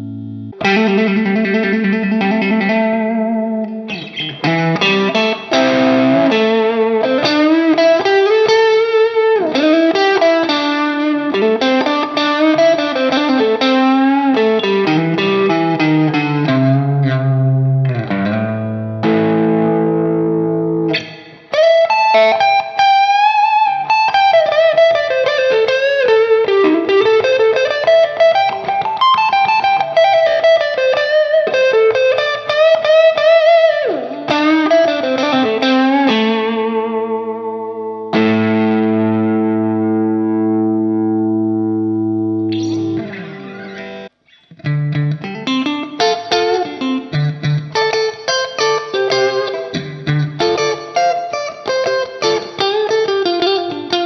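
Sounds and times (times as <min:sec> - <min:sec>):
overdriven electric guitar: 0:00.0 - 0:54.0.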